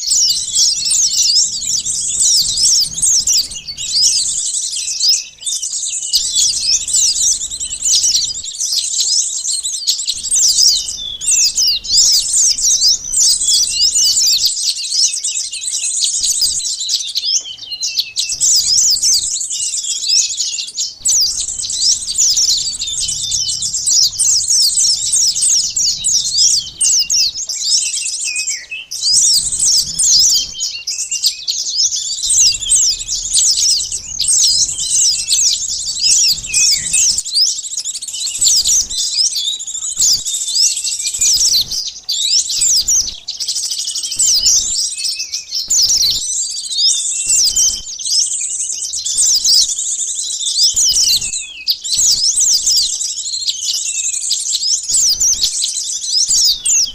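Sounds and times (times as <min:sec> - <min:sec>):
small birds chirping and twittering: 0:00.0 - 0:56.9.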